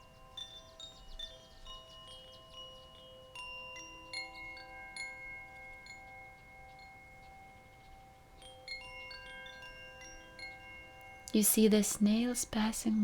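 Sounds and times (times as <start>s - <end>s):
soft chimes ringing: 0.0s - 13.0s.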